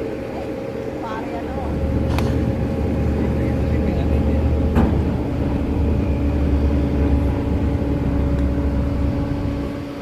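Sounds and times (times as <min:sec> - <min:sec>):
engine running with deep rumble: 0:00.0 - 0:10.0
steady hum: 0:00.0 - 0:10.0.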